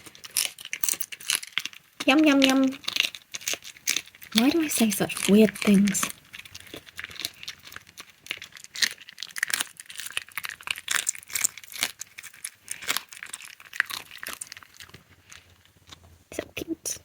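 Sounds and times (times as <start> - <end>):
fox crunching food: 0.0 - 16.7.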